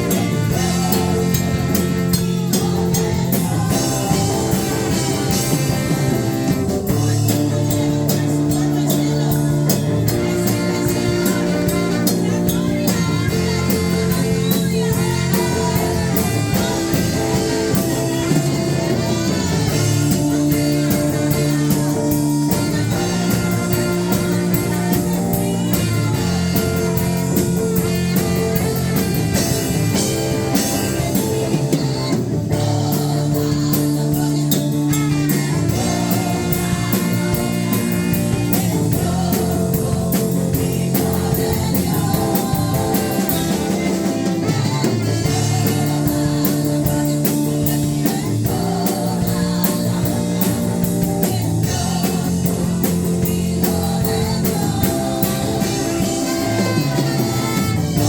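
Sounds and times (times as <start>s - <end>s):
worship music with guitar and drums: 0.0s - 58.0s.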